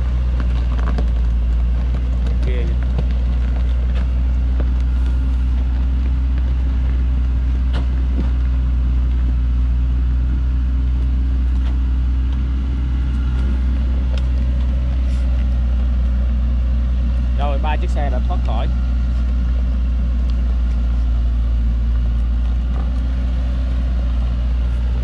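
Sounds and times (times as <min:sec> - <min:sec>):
truck engine rumbling under load: 0:00.0 - 0:25.0.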